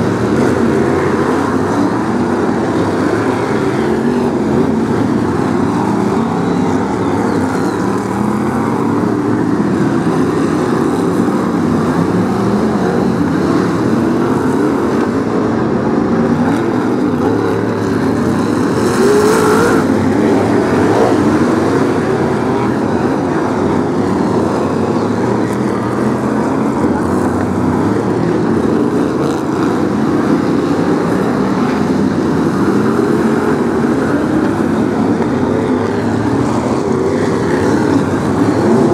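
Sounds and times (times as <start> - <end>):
race car engines revving: 0.0 - 38.9.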